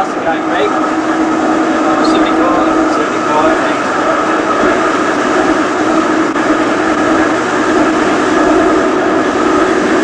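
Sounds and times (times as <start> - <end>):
steady whine: 0.0 - 10.0
tram wheels rumbling on rail: 0.0 - 10.0.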